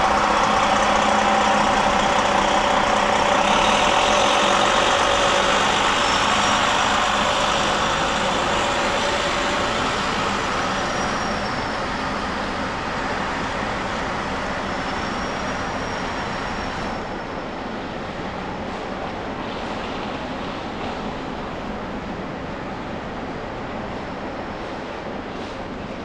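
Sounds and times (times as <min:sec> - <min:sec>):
faint high whine: 0:00.0 - 0:26.0
heavy vehicle engine drone: 0:00.0 - 0:26.0.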